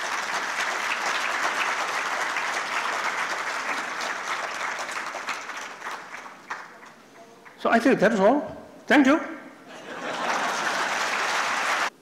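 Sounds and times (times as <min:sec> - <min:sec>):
audience applauding: 0:00.0 - 0:07.6, 0:09.9 - 0:12.0.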